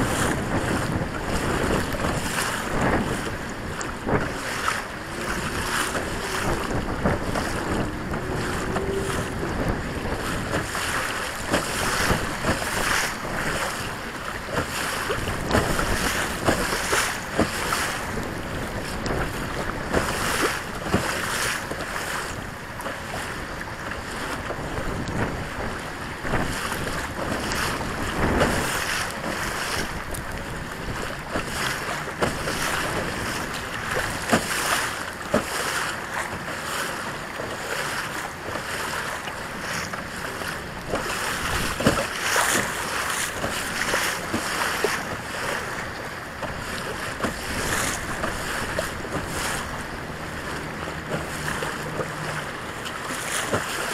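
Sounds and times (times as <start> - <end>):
waves slapping kayak hull: 0.0 - 53.9
wind buffeting microphone: 0.0 - 53.9.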